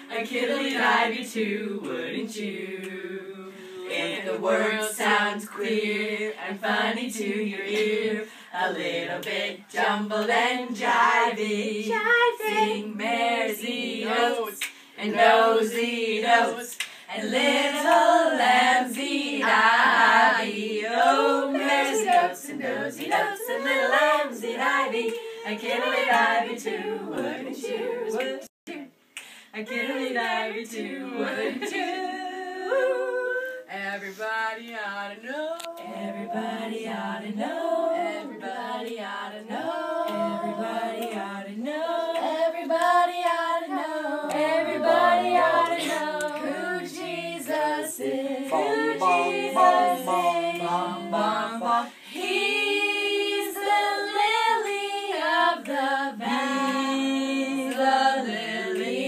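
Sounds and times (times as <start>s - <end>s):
voices singing unaccompanied: 0.0s - 59.0s.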